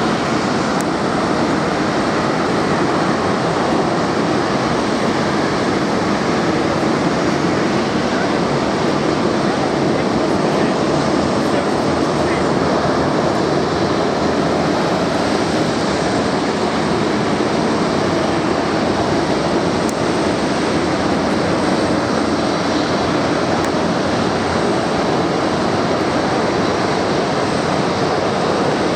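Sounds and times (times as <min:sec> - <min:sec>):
jet engines running: 0:00.0 - 0:28.9.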